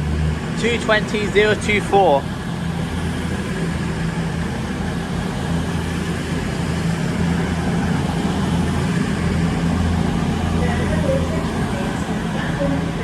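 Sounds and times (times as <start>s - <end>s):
train diesel engines humming: 0.0s - 13.0s.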